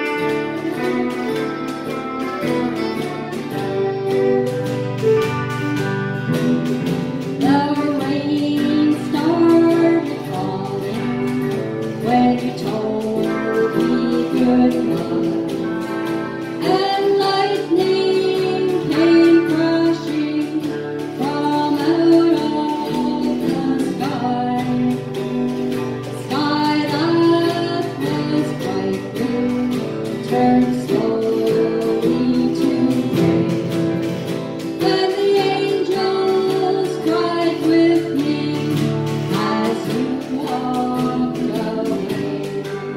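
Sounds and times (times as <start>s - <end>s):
acoustic guitar: 0.0s - 42.9s
woman singing: 0.0s - 42.9s.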